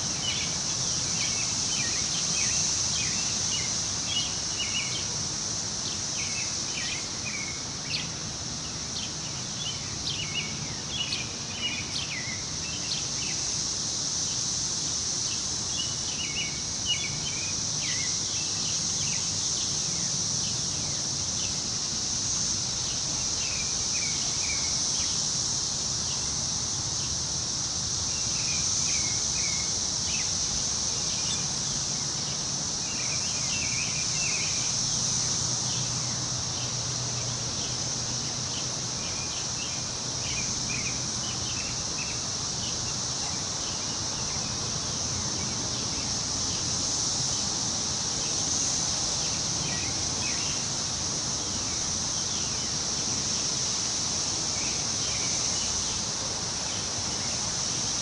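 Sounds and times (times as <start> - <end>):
high-pitched insect drone: 0.0 - 58.0
wind through trees: 0.0 - 58.0.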